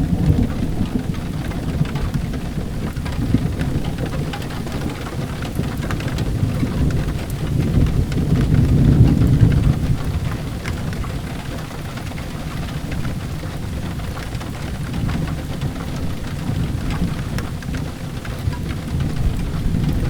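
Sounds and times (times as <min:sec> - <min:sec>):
low thunder rumble: 0:00.0 - 0:20.0
steady rain: 0:00.0 - 0:20.0
wood fire crackling: 0:00.0 - 0:20.0.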